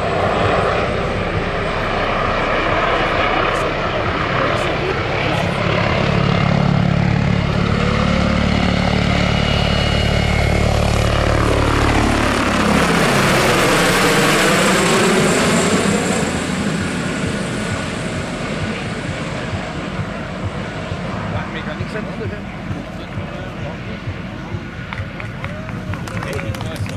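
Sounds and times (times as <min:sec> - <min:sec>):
model helicopter rotor and engine: 0:00.0 - 0:24.9.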